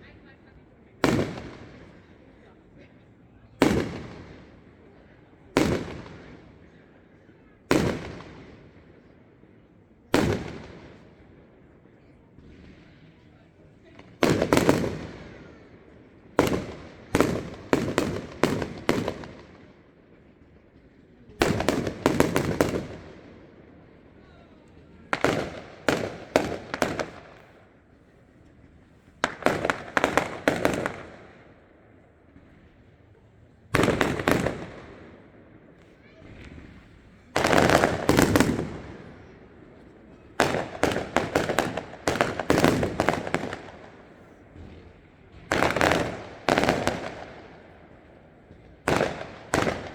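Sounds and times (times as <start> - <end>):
fireworks bangs: 1.0 - 2.2, 3.5 - 6.8, 7.6 - 9.1, 10.1 - 11.2, 12.0 - 49.9.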